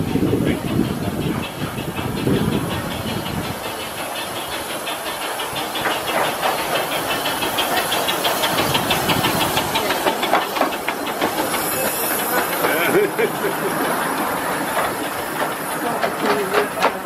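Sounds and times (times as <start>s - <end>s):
steam hissing with pulsing: 0.0s - 17.0s
steam locomotive rolling: 0.0s - 17.0s.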